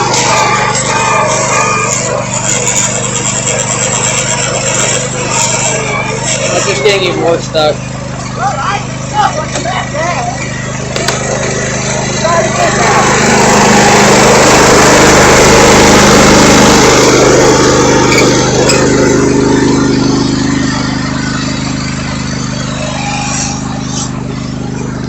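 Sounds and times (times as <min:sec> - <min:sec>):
riding lawn mower engine: 0:00.0 - 0:25.0.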